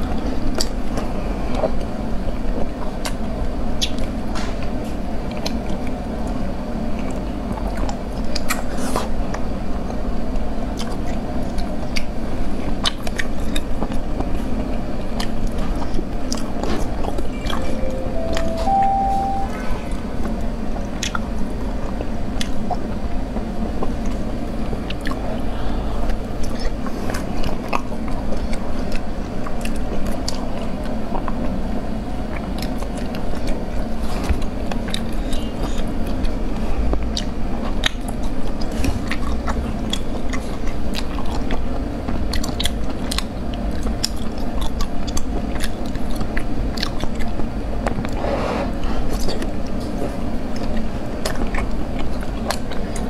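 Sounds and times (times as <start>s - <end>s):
close chewing and biting: 0.0s - 17.6s, 21.0s - 48.1s, 48.9s - 53.0s.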